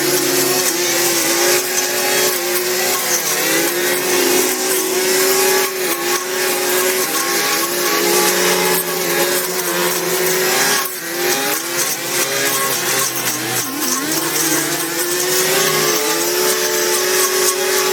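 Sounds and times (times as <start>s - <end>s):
small high-revving engine: 0.0s - 17.9s.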